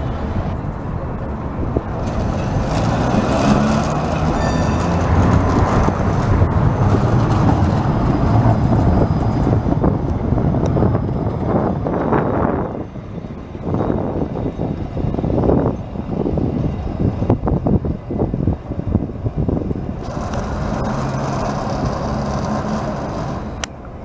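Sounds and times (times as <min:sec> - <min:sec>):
car tyre noise: 0:00.0 - 0:24.0
steel wheels rumbling on rails: 0:00.0 - 0:24.0.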